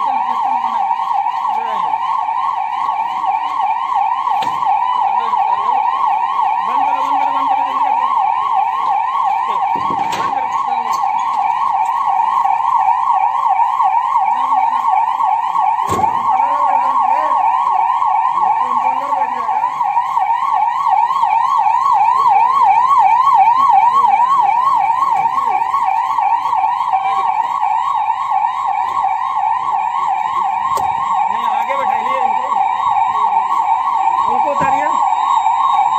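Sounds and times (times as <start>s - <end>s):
ambulance siren yelping: 0.0s - 35.9s.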